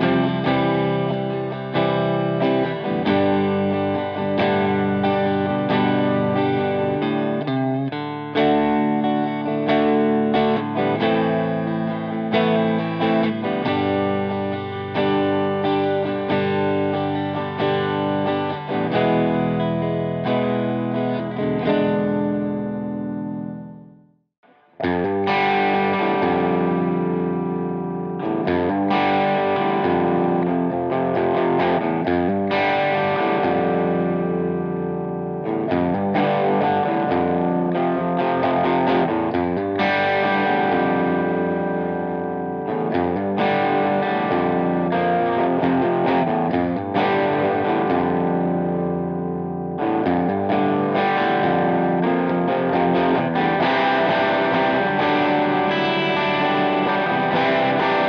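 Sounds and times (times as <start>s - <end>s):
overdriven electric guitar riff: 0.0s - 58.0s.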